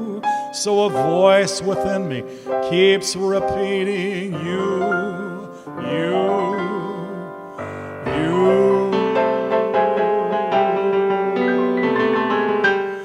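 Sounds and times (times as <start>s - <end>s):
electric keyboard chords: 0.0s - 13.0s
person singing: 0.0s - 13.0s.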